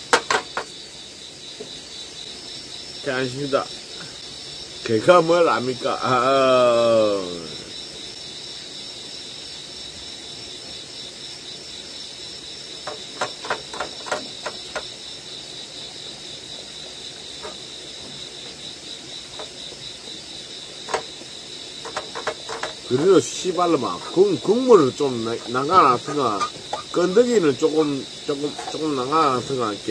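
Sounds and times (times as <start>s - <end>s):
crickets chirring: 0.0s - 29.9s.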